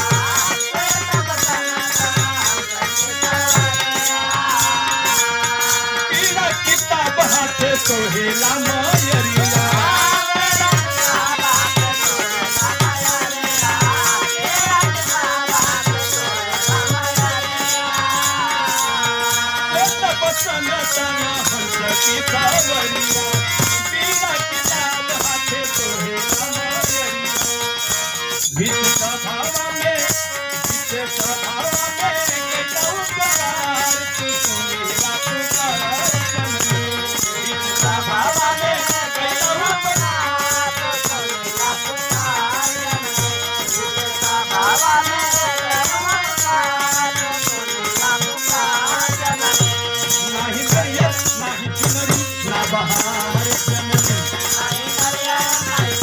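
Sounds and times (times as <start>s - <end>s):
fast rattling percussion beat: 0.0s - 56.0s
man singing into a microphone: 0.0s - 56.0s.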